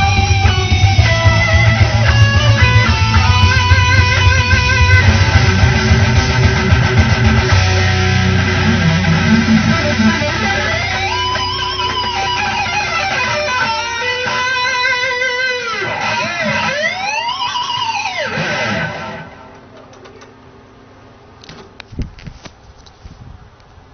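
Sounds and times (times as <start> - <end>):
guitar-led music: 0.0 - 19.5.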